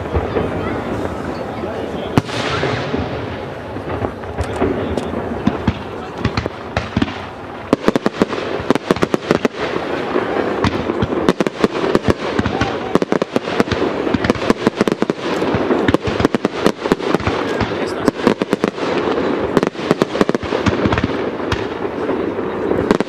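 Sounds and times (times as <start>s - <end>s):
firework bangs and crackling: 0.0s - 23.0s.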